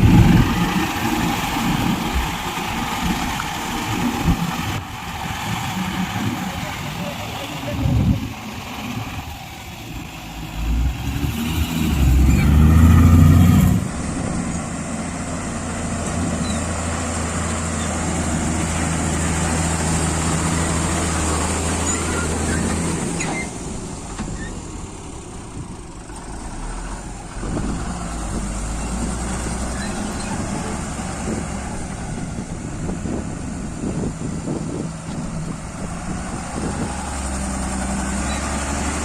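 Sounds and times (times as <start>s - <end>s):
heavy diesel engine revving: 0.0s - 39.0s.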